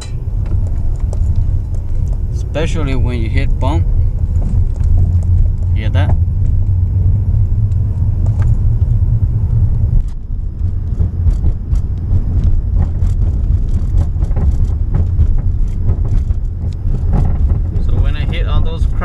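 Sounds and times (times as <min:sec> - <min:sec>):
car road and engine rumble: 0:00.0 - 0:19.0
suspension knocks and rattles: 0:00.0 - 0:19.0.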